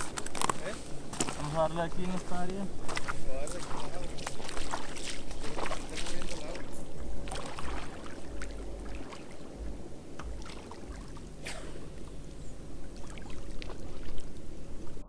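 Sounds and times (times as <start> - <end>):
low uneven rumble: 0.0 - 15.0
water lapping and splashing: 0.0 - 15.0.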